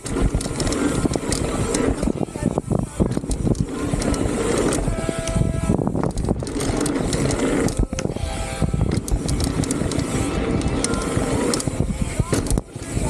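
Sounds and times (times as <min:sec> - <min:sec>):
bike rattling over bumps: 0:00.0 - 0:13.0
wind rushing: 0:00.0 - 0:13.0.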